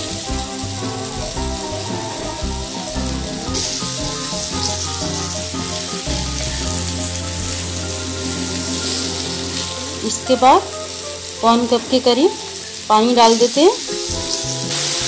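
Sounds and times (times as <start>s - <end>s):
background music of held notes: 0.0s - 15.0s
fruit sizzling in hot oil: 0.0s - 15.0s.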